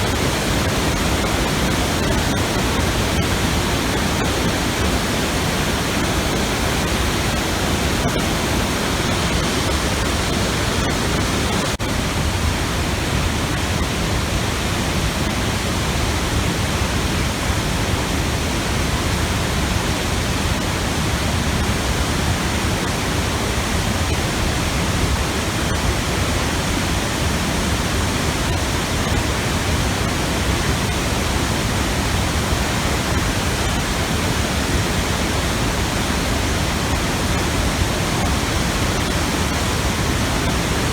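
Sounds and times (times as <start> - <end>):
waterfall rushing into pool: 0.0 - 40.9.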